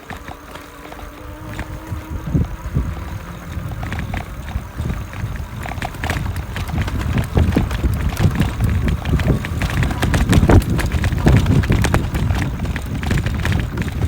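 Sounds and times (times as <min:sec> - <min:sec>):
e-bike rumbling over rough trail: 0:00.0 - 0:14.0
rattles and knocks: 0:00.0 - 0:14.0.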